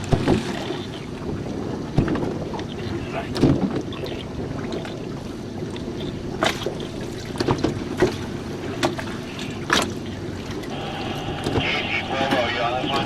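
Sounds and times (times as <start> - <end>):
low rumble of wind and water: 0.0 - 13.0.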